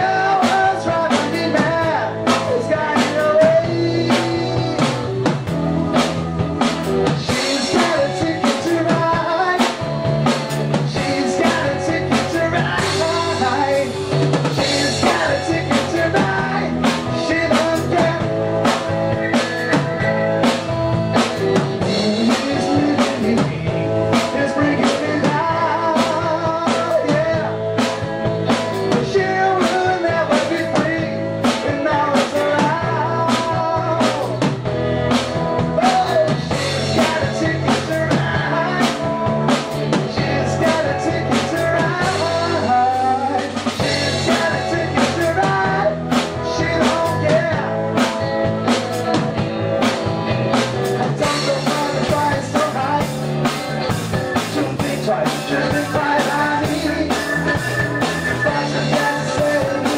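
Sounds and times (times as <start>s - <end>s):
drum kit beat: 0.0s - 59.9s
electric guitar: 0.0s - 59.9s
man singing: 0.0s - 59.9s.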